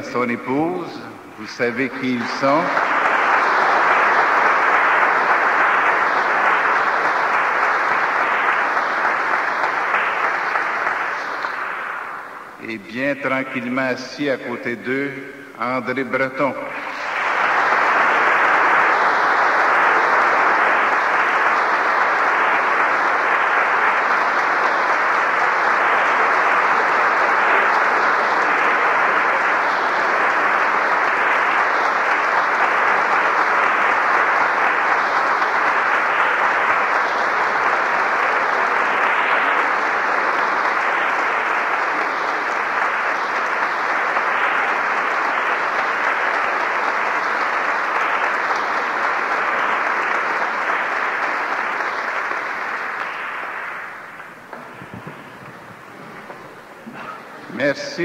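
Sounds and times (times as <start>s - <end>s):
congregation applauding: 0.0s - 58.0s.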